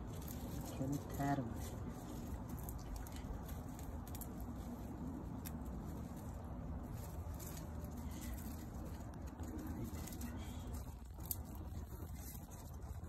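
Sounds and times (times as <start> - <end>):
leaves rustling in hands: 0.0 - 13.0.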